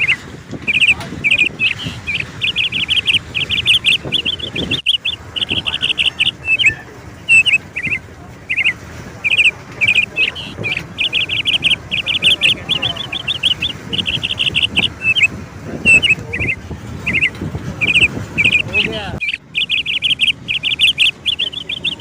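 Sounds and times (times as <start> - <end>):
birds chirping high notes: 0.0 - 22.0.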